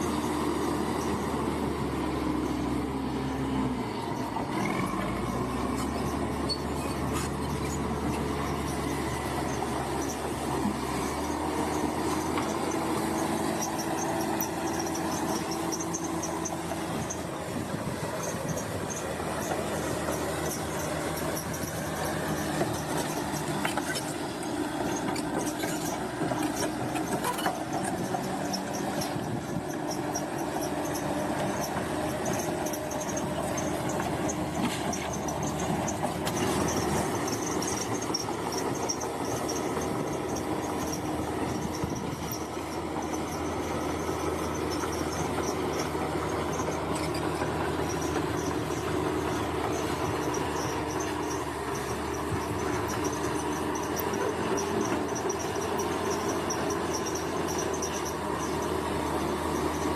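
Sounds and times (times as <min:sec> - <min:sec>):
crawler tracks squealing and clattering: 0:00.0 - 0:59.9
diesel engine running under load: 0:00.0 - 0:59.9.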